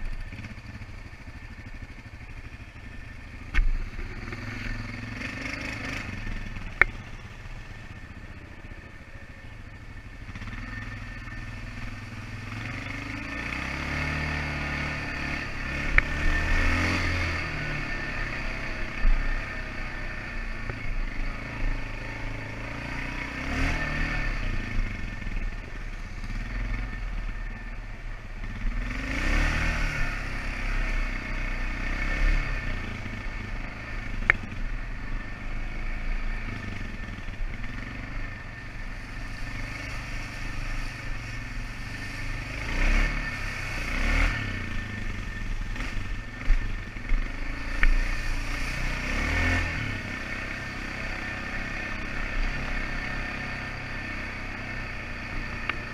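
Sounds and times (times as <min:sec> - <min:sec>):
quad engine revving: 0:03.3 - 0:07.7, 0:09.9 - 0:55.9.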